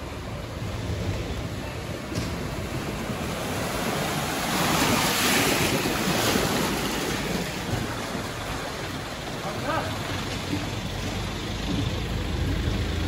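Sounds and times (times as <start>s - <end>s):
floodwater surging and splashing: 0.0s - 13.0s.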